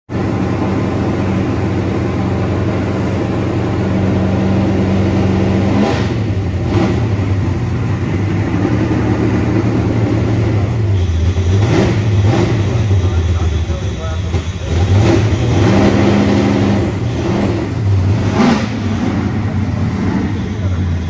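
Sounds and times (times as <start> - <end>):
race car engine idling: 0.1 - 21.0.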